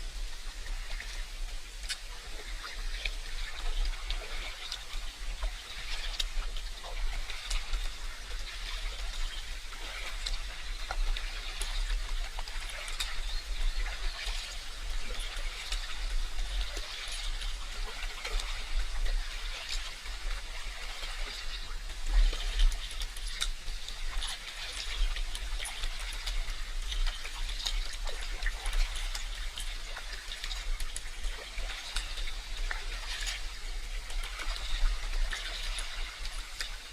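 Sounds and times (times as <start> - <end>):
water trickling and lapping: 0.0 - 36.9.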